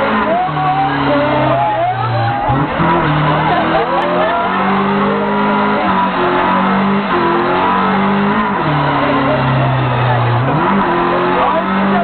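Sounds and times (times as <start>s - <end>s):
car engine at high revs: 0.0s - 12.0s
tire squealing: 0.0s - 12.0s.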